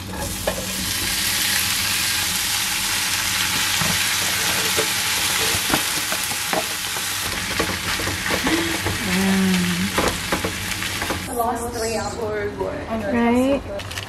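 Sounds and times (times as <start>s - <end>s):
chicken sizzling in a pan: 0.0s - 11.3s.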